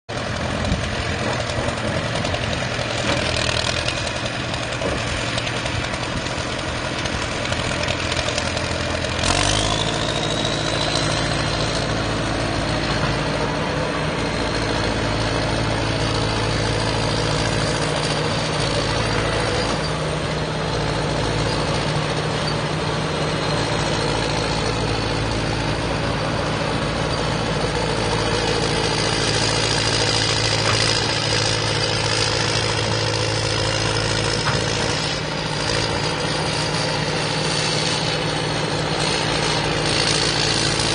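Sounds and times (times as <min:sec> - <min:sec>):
diesel engine running: 0:00.1 - 0:40.9.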